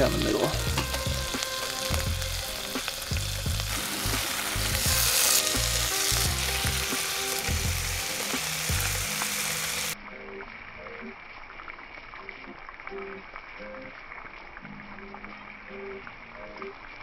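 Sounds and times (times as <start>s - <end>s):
butter sizzling in a frying pan: 0.0s - 17.0s.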